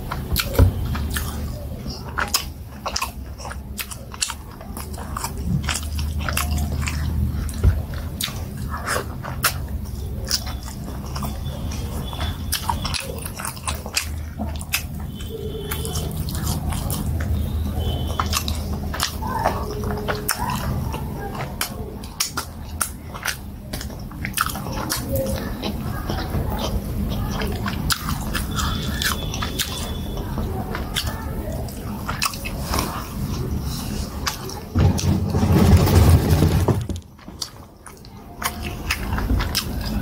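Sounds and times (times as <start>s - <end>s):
chewing: 0.0s - 40.0s.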